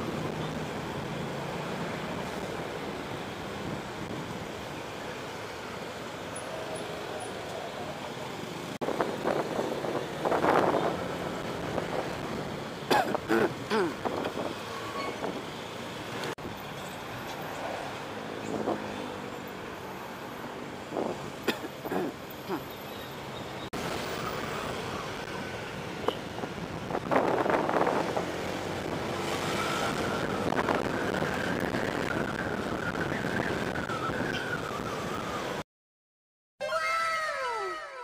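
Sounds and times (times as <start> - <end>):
road traffic rushing: 0.0 - 35.6.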